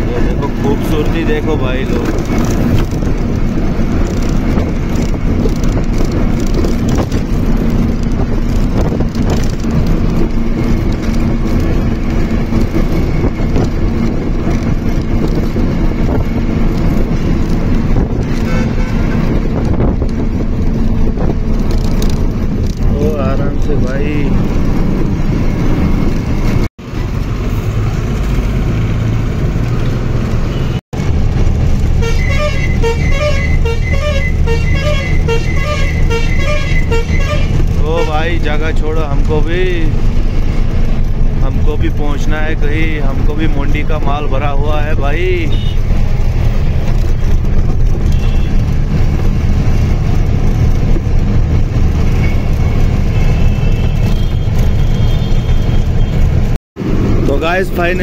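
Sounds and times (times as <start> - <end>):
road noise: 0.0 - 58.0
truck engine running: 0.0 - 58.0.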